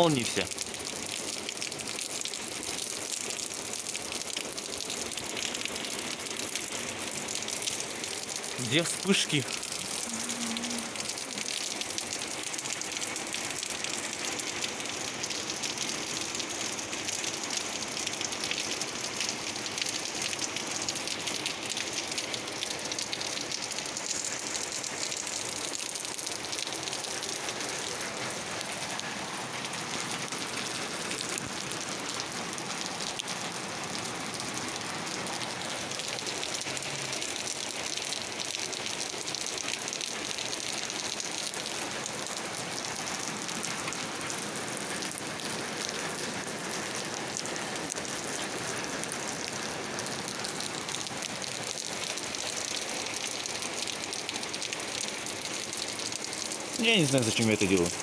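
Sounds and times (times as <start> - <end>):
rain on leaves and pavement: 0.0 - 58.0.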